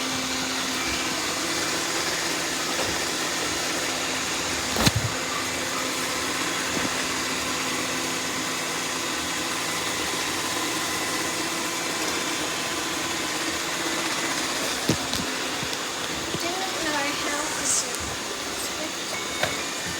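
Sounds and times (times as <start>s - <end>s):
robot vacuum whirring: 0.0s - 19.9s.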